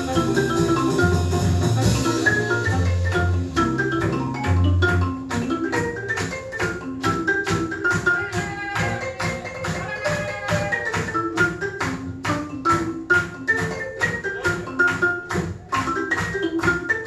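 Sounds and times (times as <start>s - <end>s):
bass notes under melody: 0.0s - 17.0s
sharp percussion hits: 0.0s - 17.0s.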